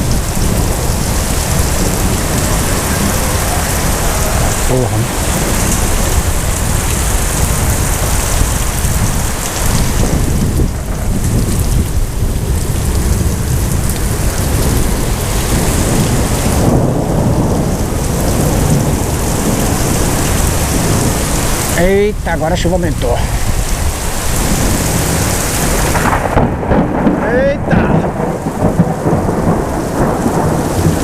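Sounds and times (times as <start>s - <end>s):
heavy rain pouring: 0.0s - 31.0s
thunder rumbling: 0.0s - 31.0s.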